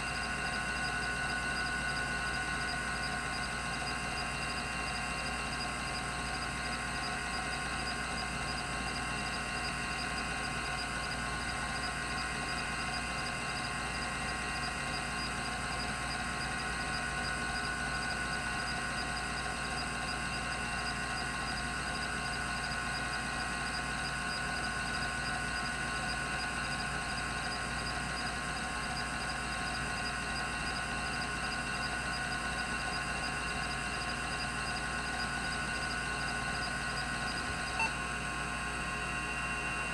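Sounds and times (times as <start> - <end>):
hard drive spinning whine: 0.0 - 39.9.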